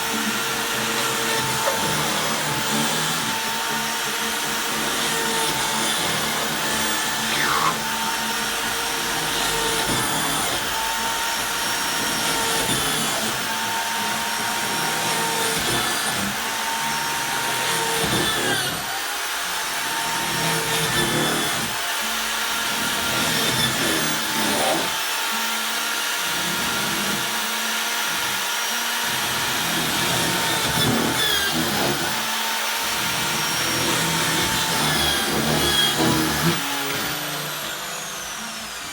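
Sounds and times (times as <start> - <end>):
electric drill boring: 0.0 - 38.9.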